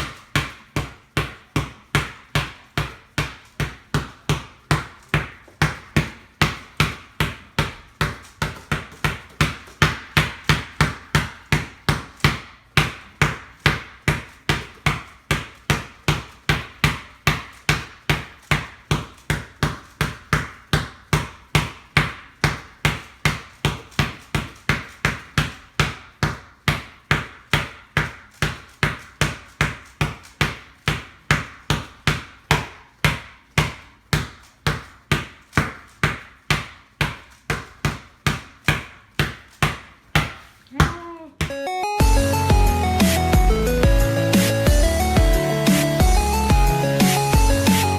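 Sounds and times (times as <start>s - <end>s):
basketball bouncing on hard floor: 0.0s - 41.6s.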